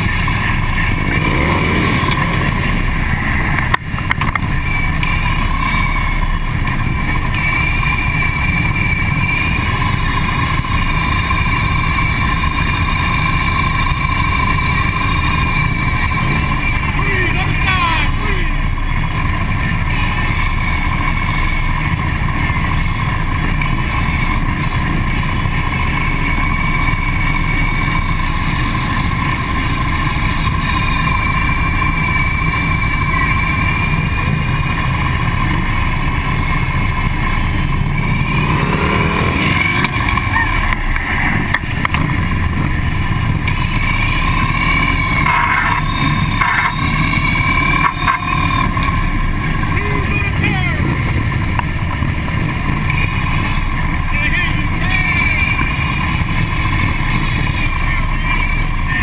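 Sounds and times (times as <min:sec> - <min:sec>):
motorcycle engines rumbling: 0:00.0 - 0:59.0.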